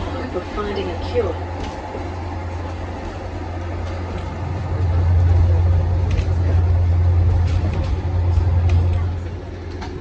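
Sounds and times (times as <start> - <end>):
train rumble inside carriage: 0.0 - 10.0.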